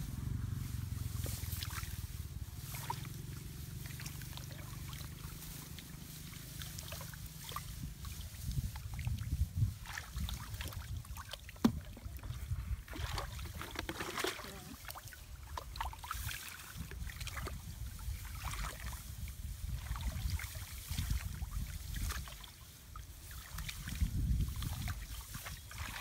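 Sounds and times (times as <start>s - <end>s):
wind rumble on microphone: 0.0s - 26.0s
hands splashing in muddy water: 1.1s - 3.2s, 3.8s - 22.6s, 23.3s - 26.0s.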